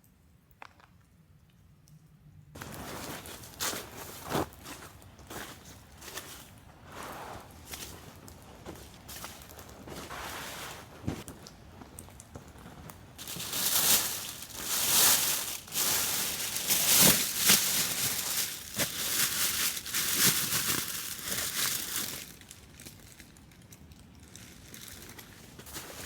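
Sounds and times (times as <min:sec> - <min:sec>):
material crinkling and rustling: 0:02.6 - 0:26.0.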